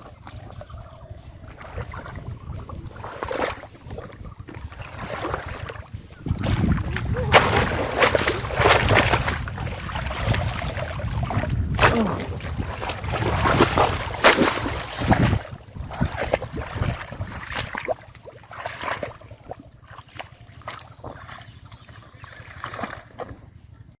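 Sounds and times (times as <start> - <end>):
water splashing in a river: 0.0 - 23.5.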